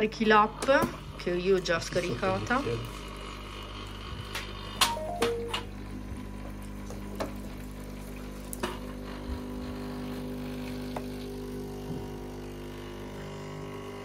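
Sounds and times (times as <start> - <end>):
coffee machine humming: 0.0 - 14.0.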